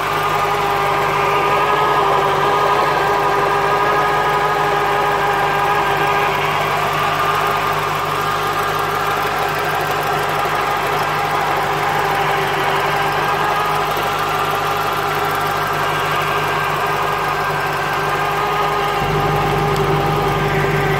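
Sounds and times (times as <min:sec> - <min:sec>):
car engine running: 0:00.0 - 0:20.9
gearbox whine: 0:00.0 - 0:20.9.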